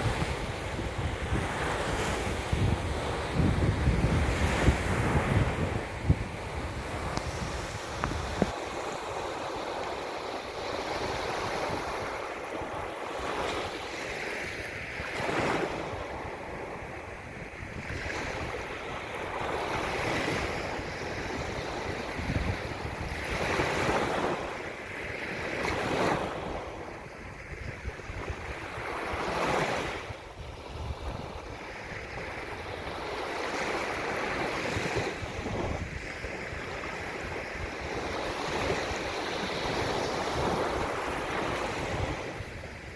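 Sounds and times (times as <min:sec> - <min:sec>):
waves breaking and washing in: 0:00.0 - 0:42.9
wind rumbling on microphone: 0:00.0 - 0:42.9.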